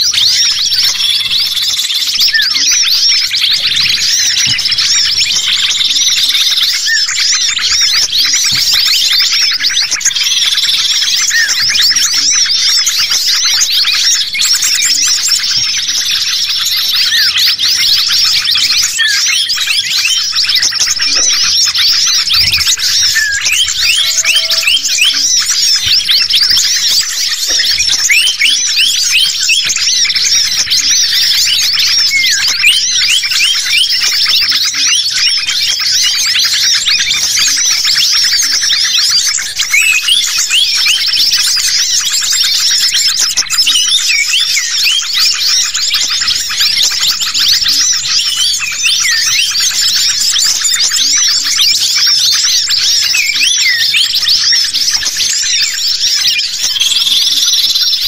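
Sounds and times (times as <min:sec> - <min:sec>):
songbirds chirping and whistling: 0:00.0 - 0:58.0.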